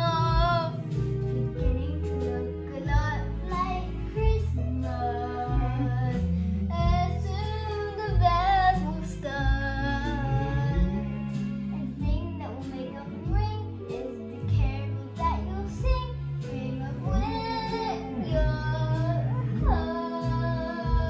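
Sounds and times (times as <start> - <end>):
girl singing: 0.0 - 21.0
karaoke backing track: 0.0 - 21.0.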